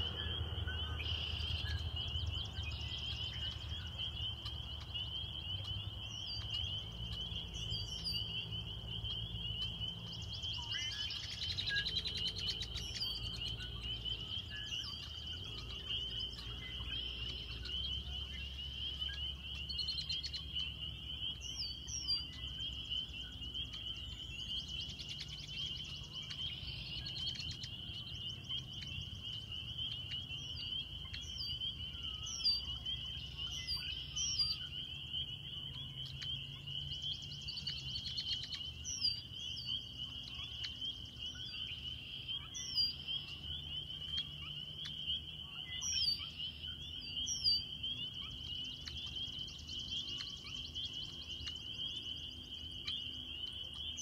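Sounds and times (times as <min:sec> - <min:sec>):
birds calling: 0:00.0 - 0:54.0
frogs chorus trilling: 0:00.0 - 0:54.0.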